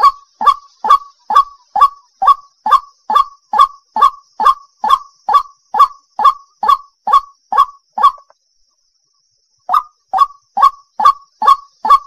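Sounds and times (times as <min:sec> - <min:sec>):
bird croaking call: 0:00.0 - 0:08.4, 0:09.6 - 0:12.0.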